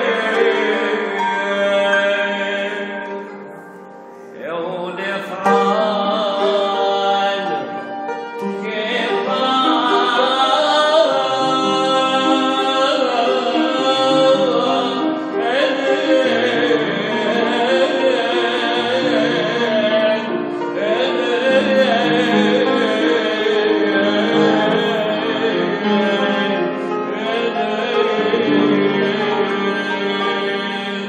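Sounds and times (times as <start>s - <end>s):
man singing a hymn: 0.0s - 3.7s, 4.3s - 31.0s
piano accompaniment: 0.0s - 31.0s.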